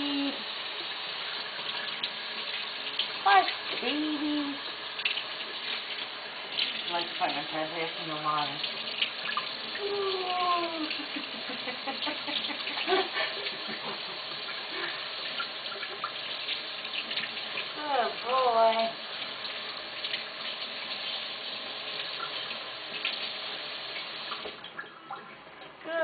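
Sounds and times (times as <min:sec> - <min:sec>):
tap water running and splashing: 0:00.0 - 0:26.0.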